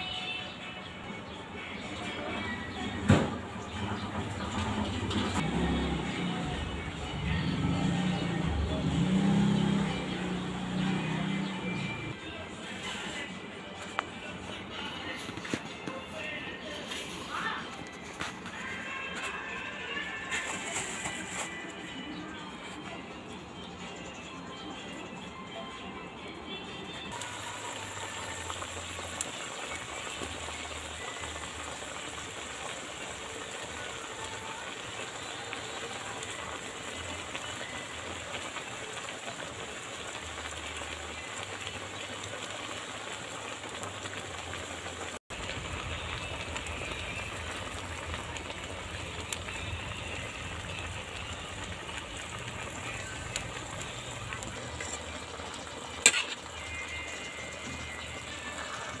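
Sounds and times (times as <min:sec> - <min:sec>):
pot sizzling and bubbling: 0:01.8 - 0:23.4, 0:26.3 - 0:59.0.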